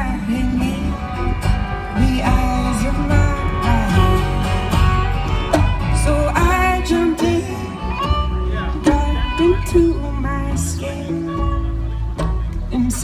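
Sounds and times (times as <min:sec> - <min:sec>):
acoustic guitar: 0:00.0 - 0:13.0
upright bass: 0:00.0 - 0:13.0.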